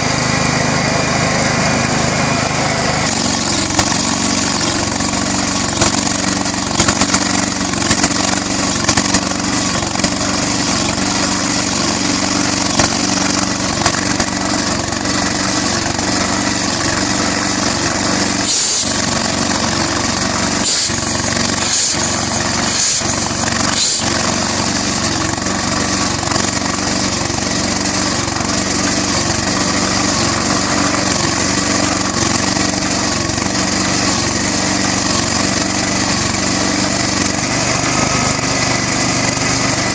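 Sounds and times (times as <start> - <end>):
flywheel engine running: 0.0 - 39.9.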